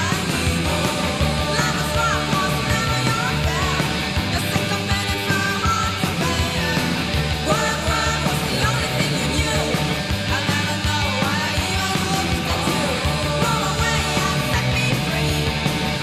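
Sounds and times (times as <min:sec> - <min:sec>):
drums driving beat: 0:00.0 - 0:16.0
electric guitar band: 0:00.0 - 0:16.0.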